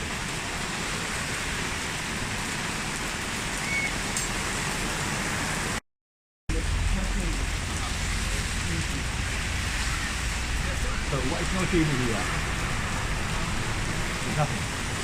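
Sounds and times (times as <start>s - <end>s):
steady rain falling: 0.0s - 5.8s, 6.5s - 15.0s.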